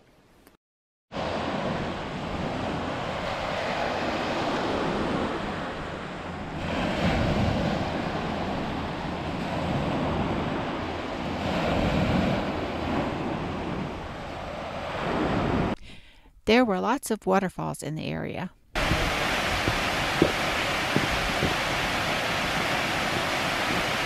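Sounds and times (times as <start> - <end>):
waves breaking on sandy beach: 1.1 - 15.8, 18.8 - 24.0.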